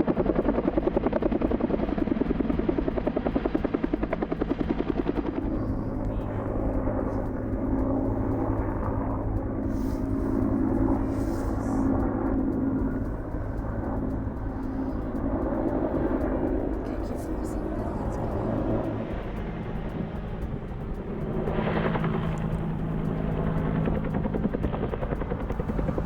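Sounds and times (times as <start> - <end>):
helicopter engine drone: 0.0 - 26.0
helicopter rotor chopping: 0.0 - 26.0.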